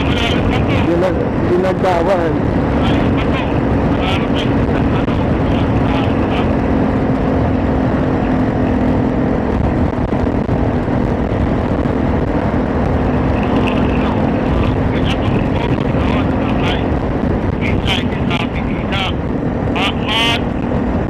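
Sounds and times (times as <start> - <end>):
motorcycle engine hum: 0.0 - 21.0
wind rushing over microphone: 0.0 - 21.0.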